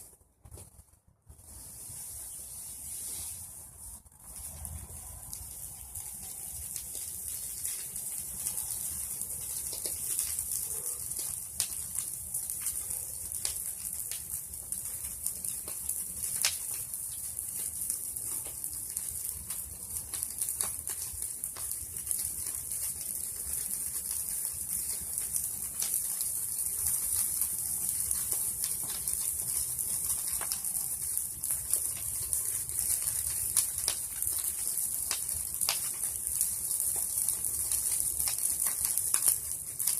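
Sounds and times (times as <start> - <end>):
wood crackling and popping: 0.0 - 39.9
bonfire hissing: 1.3 - 39.9.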